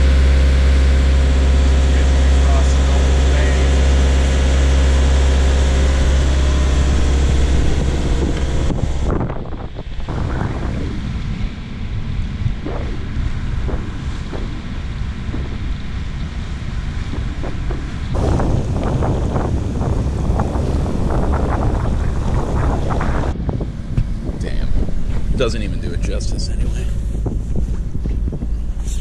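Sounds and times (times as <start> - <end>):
boat engine drone: 0.0 - 29.0
water rushing along hull: 0.0 - 29.0
wind buffeting microphone: 0.0 - 29.0.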